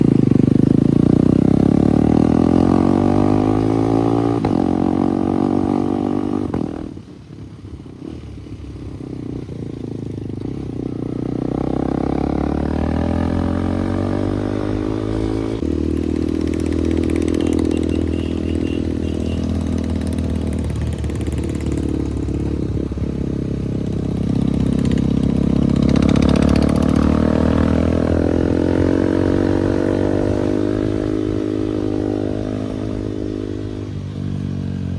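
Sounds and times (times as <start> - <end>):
motorcycle engine revving: 0.0 - 7.0, 8.0 - 34.9.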